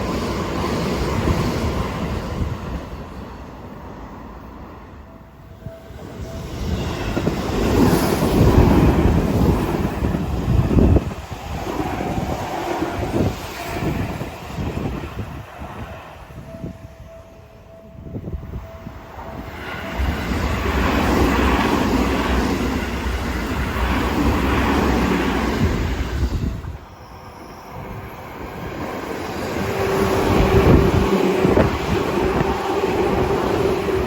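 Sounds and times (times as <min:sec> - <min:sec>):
electric train running past: 0:00.0 - 0:34.0.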